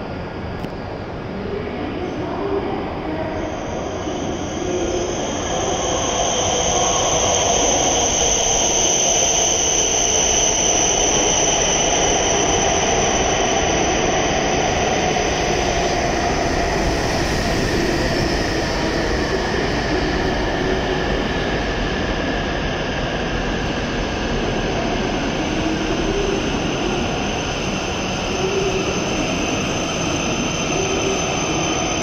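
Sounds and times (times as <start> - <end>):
high steady train whine: 0.0 - 32.0
train rushing rumble: 0.0 - 32.0.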